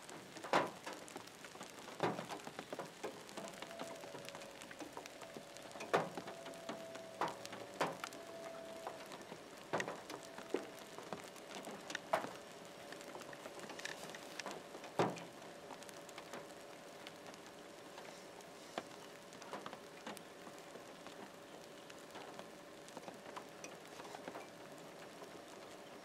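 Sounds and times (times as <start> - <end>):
large raindrops ticking: 0.0 - 26.0
rain pattering: 0.0 - 26.0.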